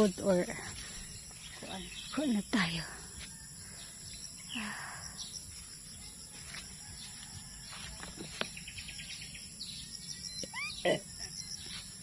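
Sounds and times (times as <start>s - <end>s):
bird chirps: 0.0s - 12.0s
high-pitched insect drone: 0.0s - 12.0s.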